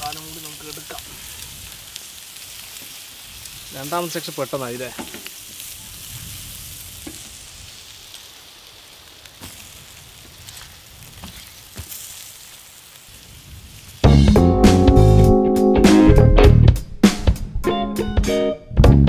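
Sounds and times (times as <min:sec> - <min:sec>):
meat sizzling on hot stones: 0:00.0 - 0:15.3.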